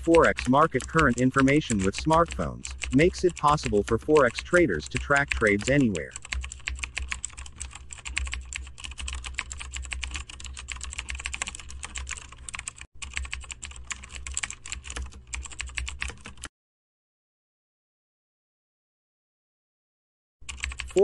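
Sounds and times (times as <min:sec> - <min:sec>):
keyboard typing clicks: 0:00.0 - 0:16.5, 0:20.5 - 0:21.0.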